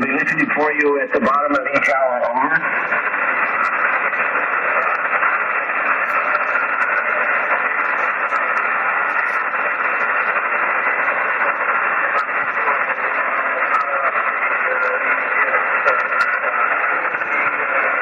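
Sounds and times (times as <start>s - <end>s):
faint radio crackles: 0.0s - 18.0s
radio static hiss: 0.0s - 18.0s.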